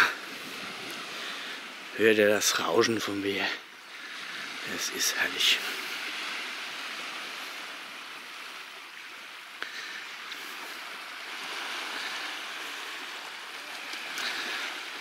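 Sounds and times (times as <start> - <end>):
small waves washing on shore: 0.0 - 15.0.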